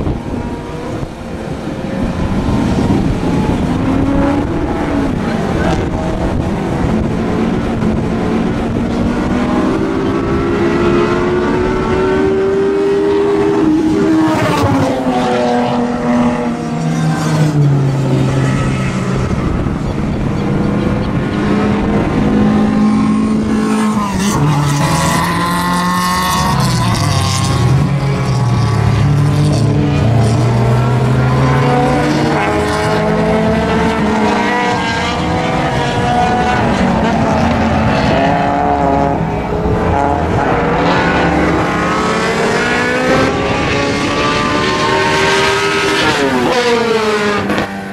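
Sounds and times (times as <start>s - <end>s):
racing car engines revving: 0.0s - 47.9s.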